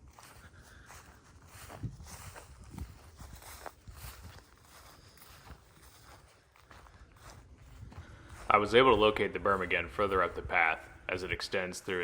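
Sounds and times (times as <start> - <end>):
soft footsteps on trail: 0.0 - 12.0.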